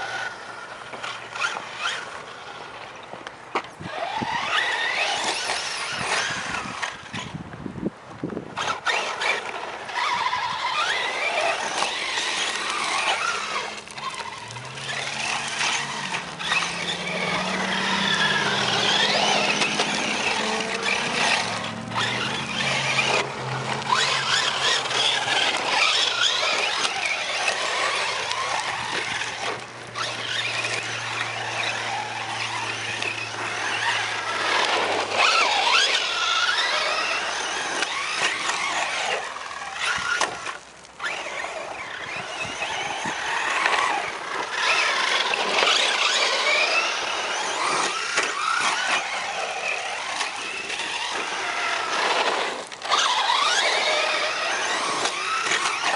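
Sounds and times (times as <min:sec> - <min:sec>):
tyres churning gravel: 0:00.0 - 0:55.9
electric motor whining: 0:03.7 - 0:07.5, 0:08.2 - 0:55.9.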